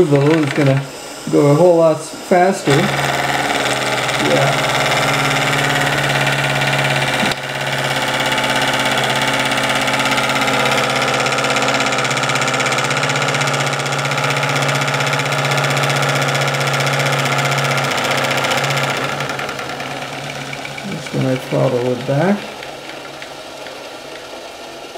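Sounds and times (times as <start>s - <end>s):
steam engine running fast: 0.0s - 24.9s.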